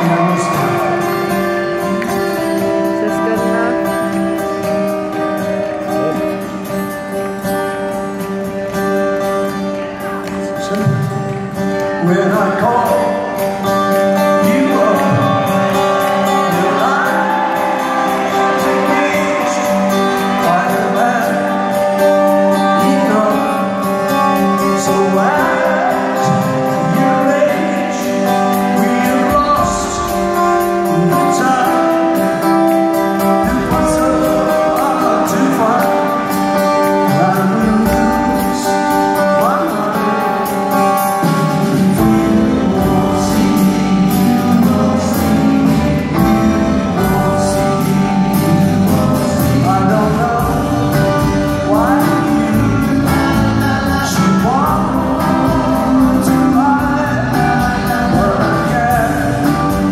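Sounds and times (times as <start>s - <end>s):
man singing: 0.0s - 7.2s, 10.4s - 59.9s
live band playing: 0.0s - 59.9s
strummed acoustic guitar: 0.0s - 59.9s.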